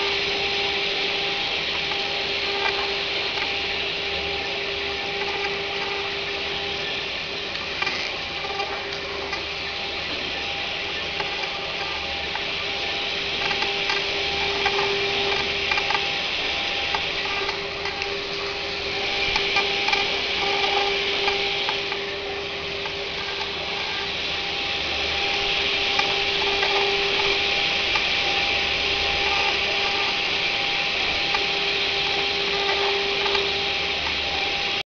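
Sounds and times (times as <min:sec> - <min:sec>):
spindle running steady tone: 0:00.0 - 0:34.8.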